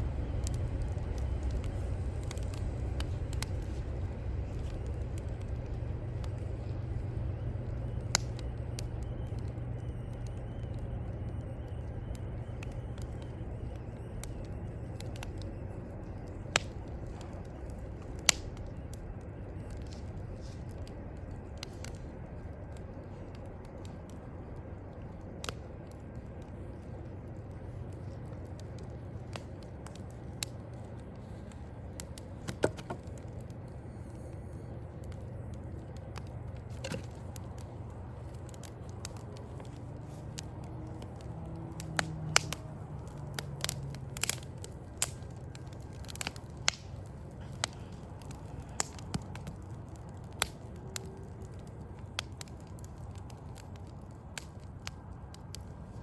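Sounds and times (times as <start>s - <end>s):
distant city traffic rumble: 0.0s - 56.0s
fire popping: 0.0s - 56.0s
wood fire crackling: 0.0s - 56.0s.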